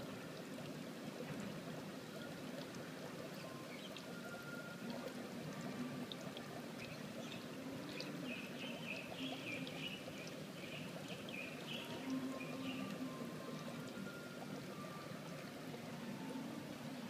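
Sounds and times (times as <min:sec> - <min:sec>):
water trickling and pouring: 0:00.0 - 0:17.0.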